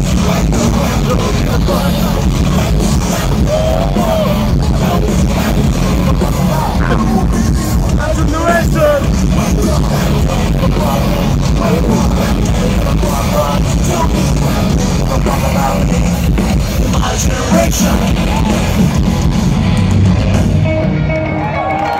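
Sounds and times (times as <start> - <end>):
vocals: 0.0 - 20.6
drums: 0.0 - 21.9
electric guitars: 0.0 - 21.9.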